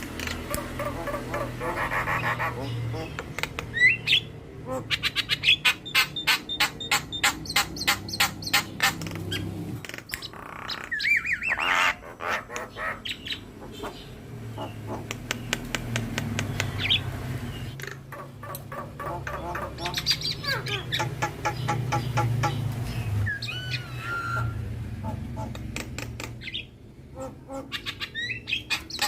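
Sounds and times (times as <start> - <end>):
bird chattering: 0.0 - 29.0.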